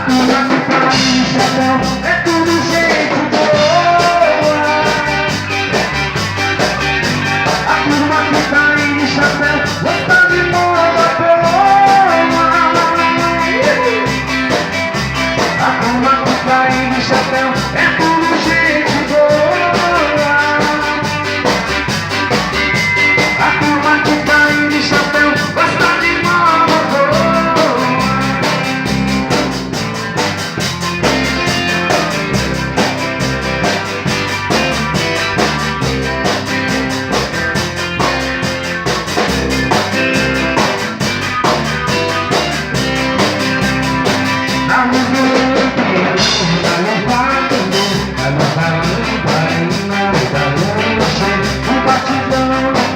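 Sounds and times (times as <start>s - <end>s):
band music with drum beat: 0.0s - 52.9s.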